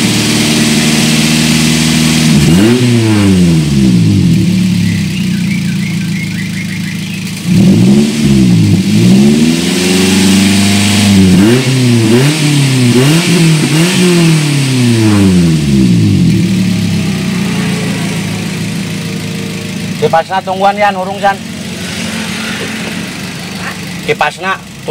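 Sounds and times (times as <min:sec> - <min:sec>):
van engine revving: 0:00.0 - 0:24.9.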